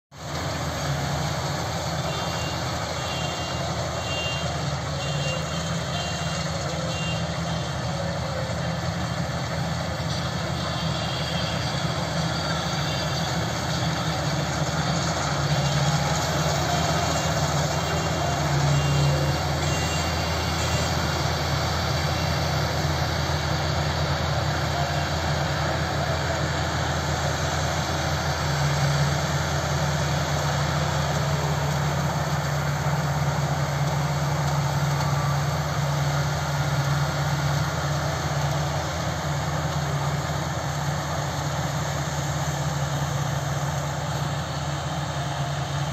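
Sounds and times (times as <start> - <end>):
combine harvester engine drone: 0.1 - 45.9
threshing machinery noise: 0.1 - 45.9.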